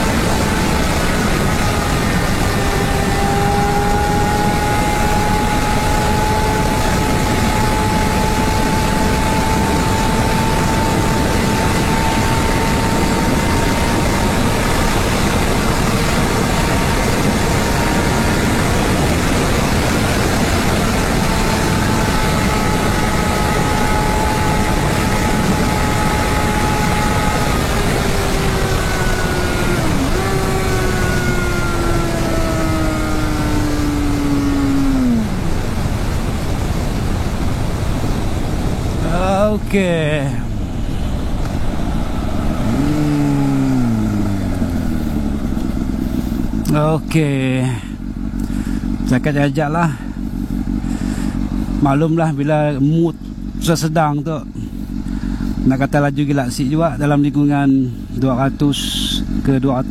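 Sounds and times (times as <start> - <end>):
wind rush over microphone: 0.0 - 51.9
motorcycle engine at high speed: 0.0 - 59.9.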